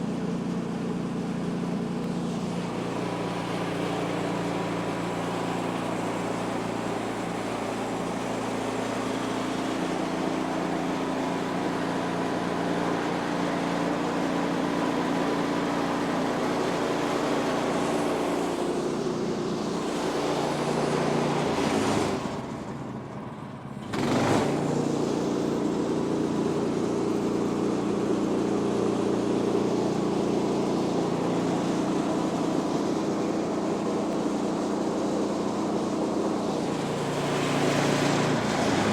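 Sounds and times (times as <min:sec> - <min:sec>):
sawmill gas engine running: 0:00.0 - 0:38.9.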